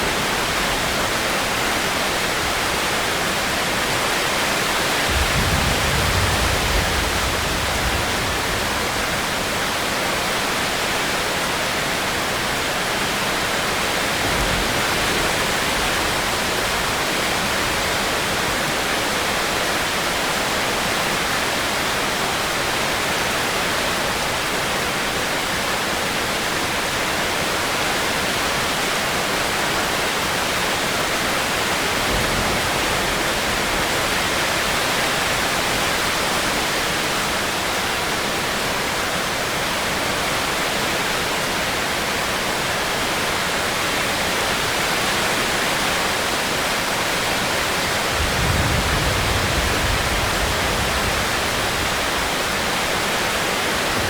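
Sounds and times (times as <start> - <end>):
rain hiss: 0.0 - 25.9, 26.6 - 54.0.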